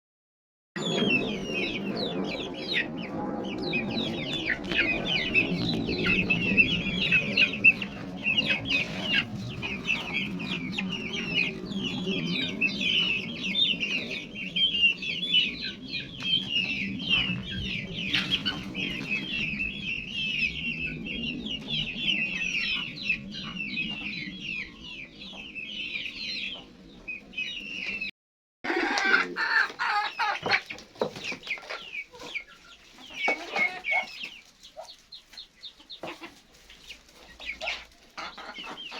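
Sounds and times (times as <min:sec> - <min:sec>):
hens clucking: 0:00.8 - 0:24.6, 0:28.7 - 0:38.9
chicks peeping: 0:00.8 - 0:28.1, 0:28.7 - 0:38.9.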